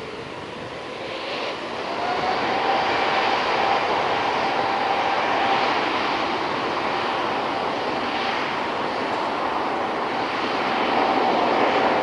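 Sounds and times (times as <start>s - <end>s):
faint whine: 0.0s - 12.0s
jet engines rushing: 0.0s - 12.0s.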